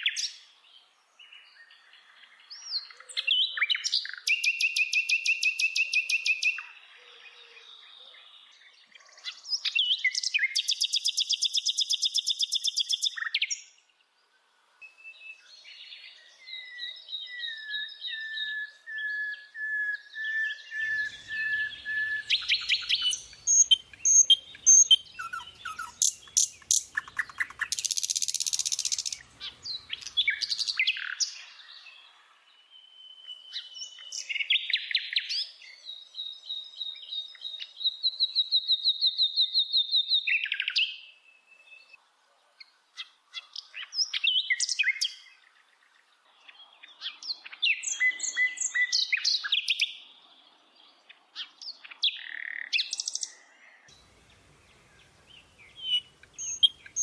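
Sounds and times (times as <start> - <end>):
bird singing: 0.0 - 42.0, 42.6 - 57.0.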